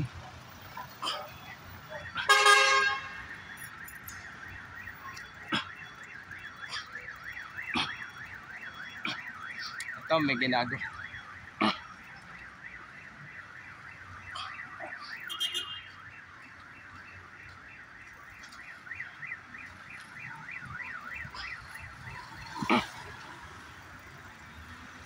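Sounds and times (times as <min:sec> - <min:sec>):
car alarm siren wailing: 0:00.0 - 0:25.0.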